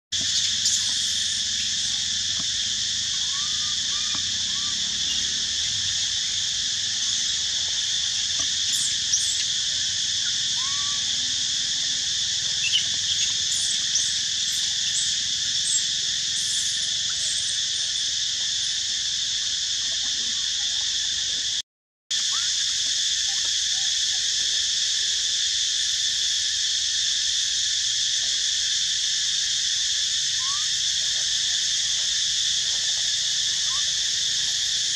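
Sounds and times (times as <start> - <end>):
insect chorus drone: 0.2 - 34.9.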